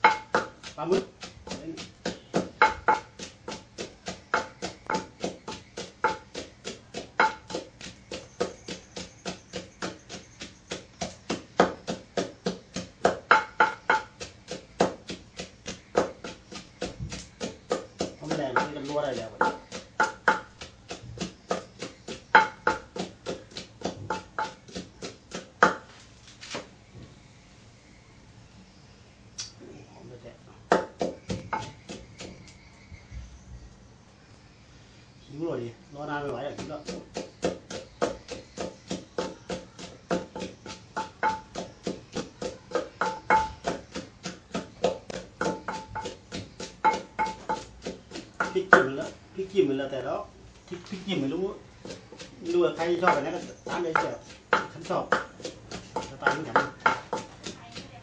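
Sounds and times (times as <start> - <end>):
pestle pounding in a mortar: 0.0 - 25.9, 30.6 - 32.6, 36.2 - 50.0, 50.9 - 58.0.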